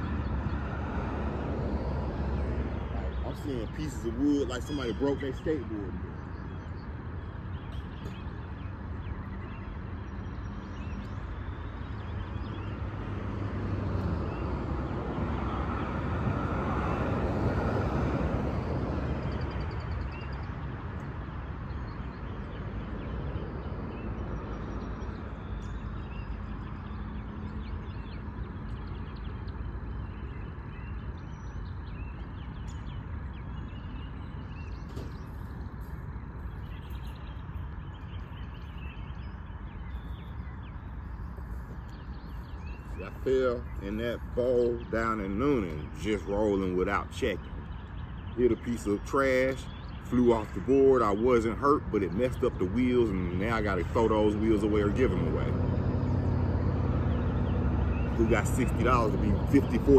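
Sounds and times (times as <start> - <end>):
vehicle passing: 0.0 - 6.2, 12.0 - 21.6, 22.3 - 59.9
distant road traffic: 0.0 - 59.9.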